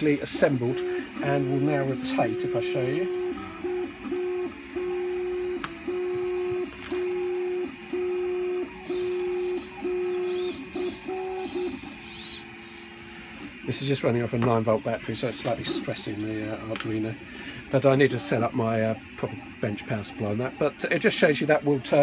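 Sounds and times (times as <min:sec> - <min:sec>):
servo motor whine: 0:00.0 - 0:22.0.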